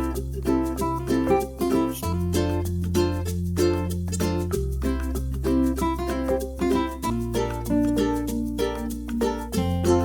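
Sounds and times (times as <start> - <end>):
held bass: 0.0 - 10.0
plucked strings: 0.0 - 10.0.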